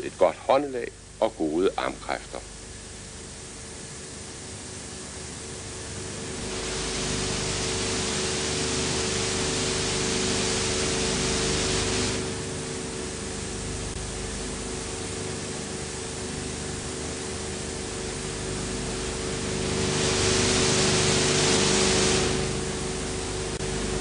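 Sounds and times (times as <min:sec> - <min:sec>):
recording hiss: 0:00.0 - 0:24.0
low hum: 0:04.0 - 0:24.0.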